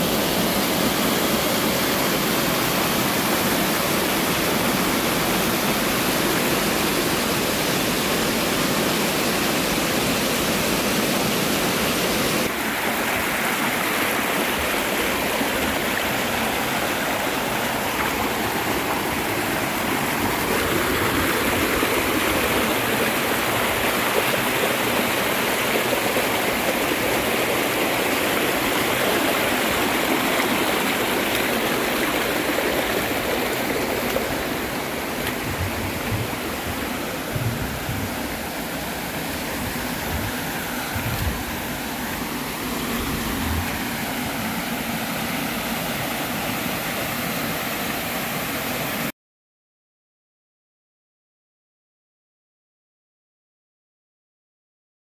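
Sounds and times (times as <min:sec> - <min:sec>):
stream running over rocks: 0:00.0 - 0:49.1
waterfall rushing: 0:00.0 - 0:49.1.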